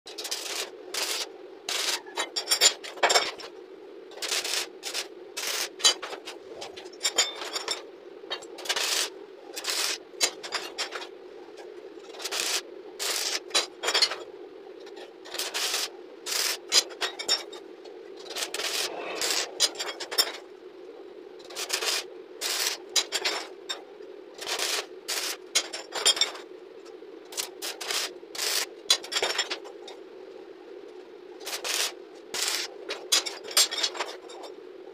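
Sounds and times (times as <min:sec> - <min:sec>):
arc welding crackling: 0:00.1 - 0:29.9, 0:30.8 - 0:34.4
steady hum: 0:00.1 - 0:34.9.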